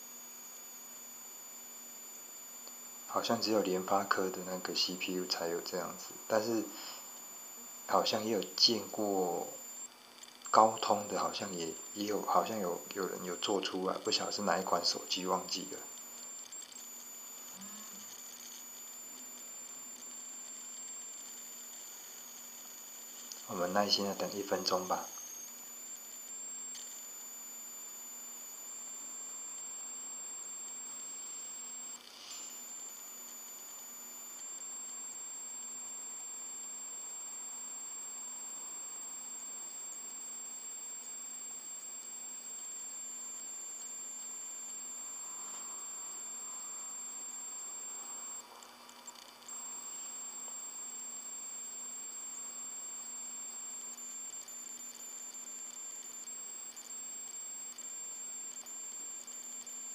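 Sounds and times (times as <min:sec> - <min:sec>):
faint low hum and hiss: 0:00.0 - 0:59.9
high-pitched electronic whine: 0:00.0 - 0:59.9.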